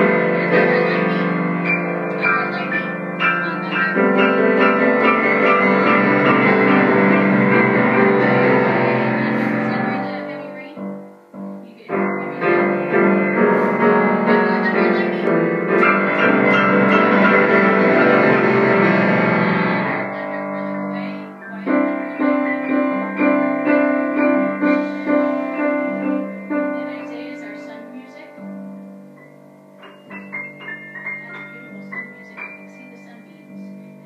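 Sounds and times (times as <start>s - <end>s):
grand piano played four-hands: 0.0s - 34.0s.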